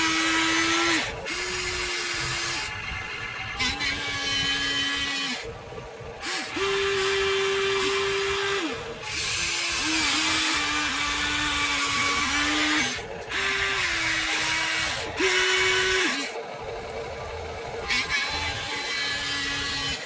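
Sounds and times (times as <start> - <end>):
toy electric motors whining: 0.0 - 20.0.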